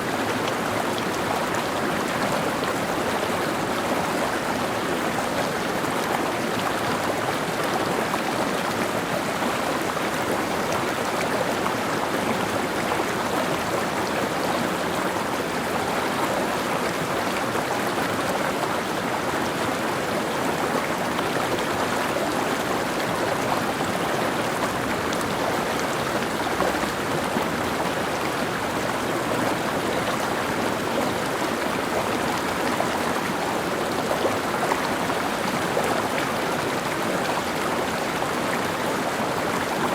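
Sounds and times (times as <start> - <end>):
stream splashing over rocks: 0.2 - 39.9.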